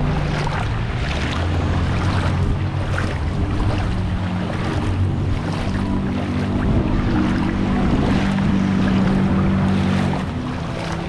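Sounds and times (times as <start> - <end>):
low hum: 0.0 - 11.0
sloshing through floodwater: 0.0 - 11.0.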